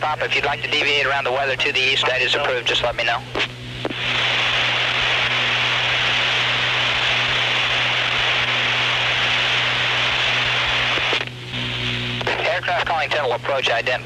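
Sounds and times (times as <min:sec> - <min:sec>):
radio static: 0:00.0 - 0:14.0
steady low hum: 0:00.0 - 0:14.0.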